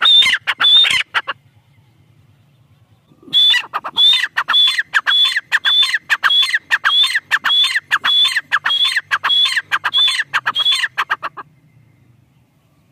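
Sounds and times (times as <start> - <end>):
francolin calling: 0.0 - 12.1.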